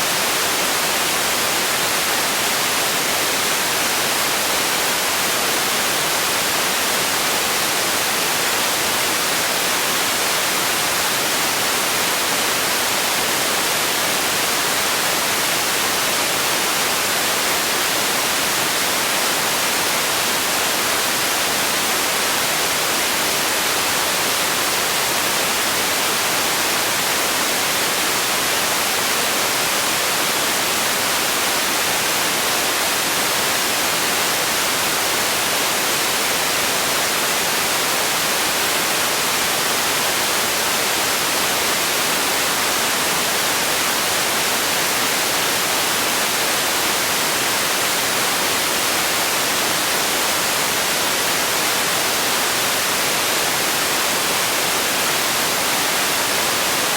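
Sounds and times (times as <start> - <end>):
white noise hiss: 0.0 - 56.9.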